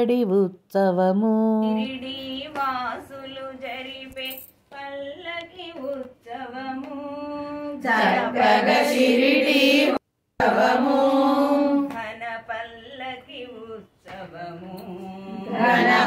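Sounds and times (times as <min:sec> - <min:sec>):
women singing a devotional song: 0:00.0 - 0:16.0.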